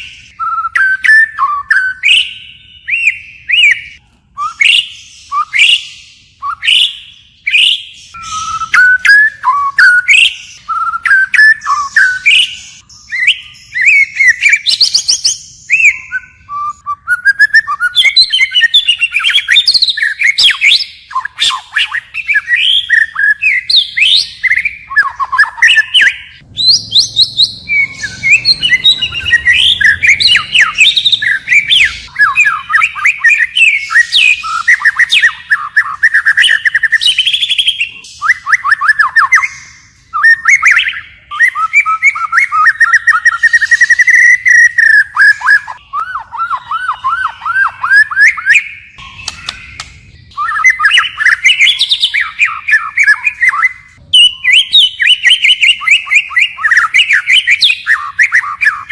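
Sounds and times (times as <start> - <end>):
bird singing trills and whistles: 0.0 - 58.9.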